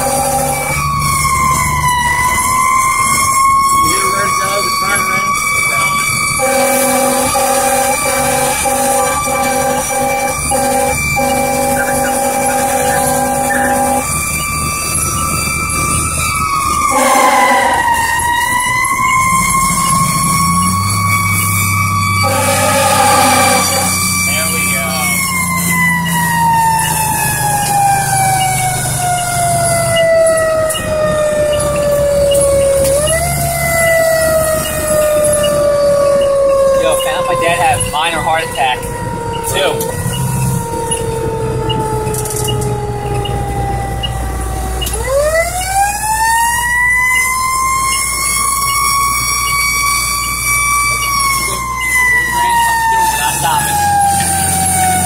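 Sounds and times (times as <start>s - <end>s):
fire truck siren wailing: 0.0s - 55.0s
truck engine running: 0.0s - 55.0s.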